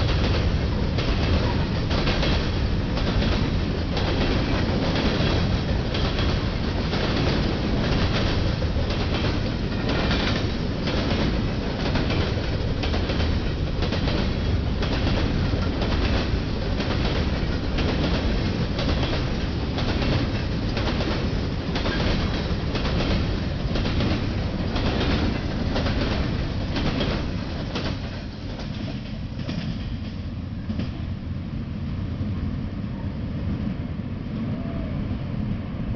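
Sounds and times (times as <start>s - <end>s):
train wheels clacking over rail joints: 0.0s - 31.1s
freight train rumble: 0.0s - 35.9s.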